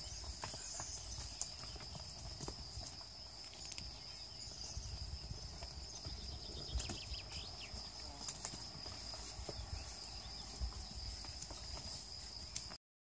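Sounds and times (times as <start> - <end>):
hooves rustling undergrowth: 0.0 - 12.8.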